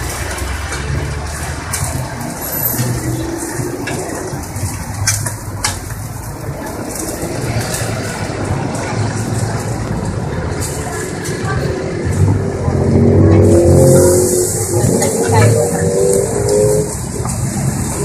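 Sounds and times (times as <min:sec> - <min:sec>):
traffic din: 0:00.0 - 0:18.0.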